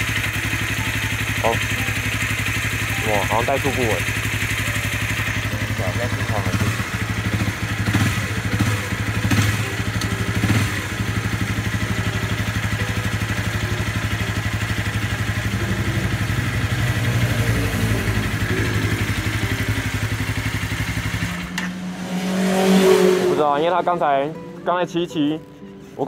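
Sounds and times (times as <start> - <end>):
motorcycle engine idling and revving: 0.0 - 24.8.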